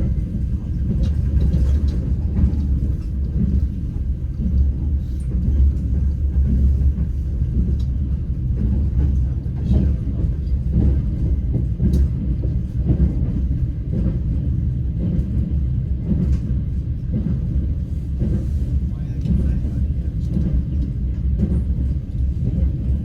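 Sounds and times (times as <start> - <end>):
train rumble inside carriage: 0.0 - 23.0.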